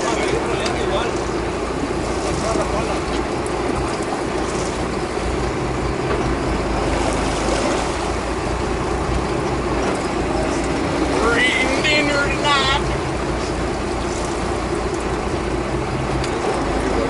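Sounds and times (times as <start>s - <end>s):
boat motor running: 0.0s - 17.0s
wind and water hiss: 0.0s - 17.0s.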